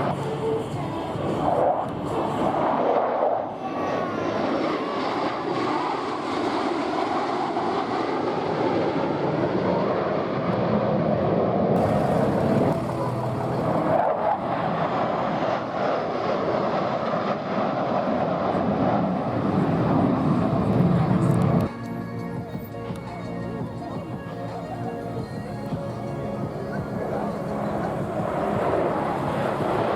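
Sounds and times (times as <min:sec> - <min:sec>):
jet engine roar flying past: 0:00.0 - 0:29.9.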